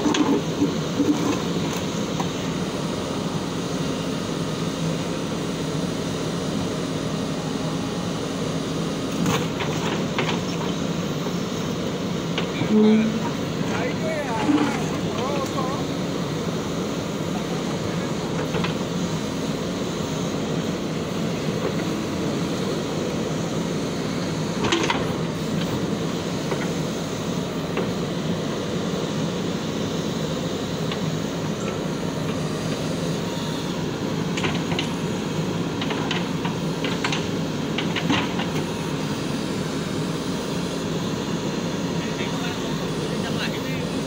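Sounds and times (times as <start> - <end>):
diesel engine running under load: 0.0 - 44.0.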